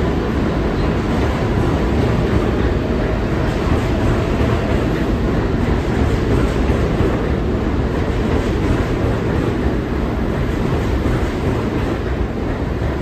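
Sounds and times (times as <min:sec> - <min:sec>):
subway train running past: 0:00.0 - 0:13.0.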